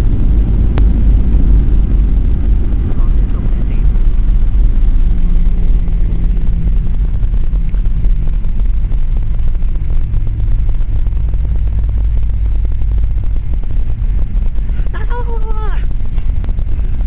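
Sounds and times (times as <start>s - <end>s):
airliner engines and airflow: 0.0s - 17.0s
runway rumble: 0.0s - 17.0s.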